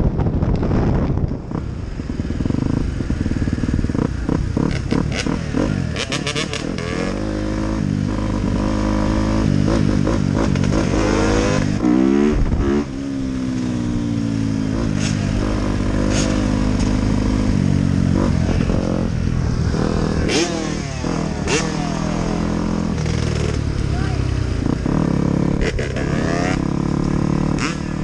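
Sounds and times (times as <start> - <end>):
dirt bike engine revving: 2.4 - 28.0.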